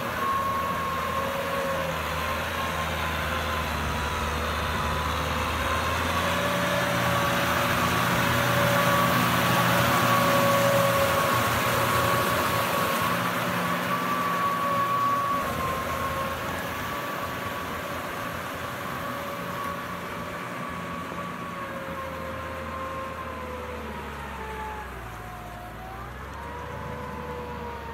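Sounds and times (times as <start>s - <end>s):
tractor diesel engine under load: 0.0s - 27.9s.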